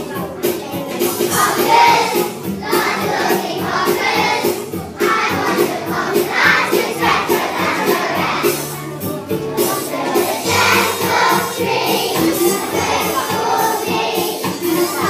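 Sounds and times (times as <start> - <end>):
musical accompaniment: 0.0 - 15.0
children singing in unison: 1.2 - 8.8, 9.6 - 15.0.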